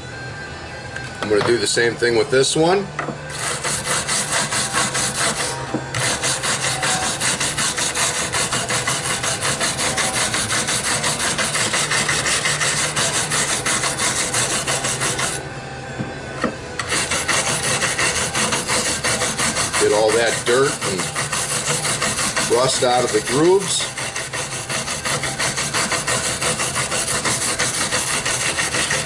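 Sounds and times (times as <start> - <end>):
wire brush scrubbing metal file: 3.3 - 15.4, 16.8 - 29.0.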